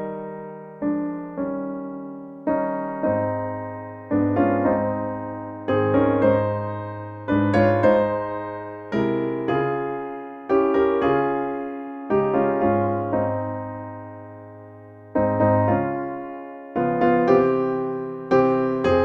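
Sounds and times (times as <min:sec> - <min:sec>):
piano playing hymn chords: 0:00.0 - 0:19.0.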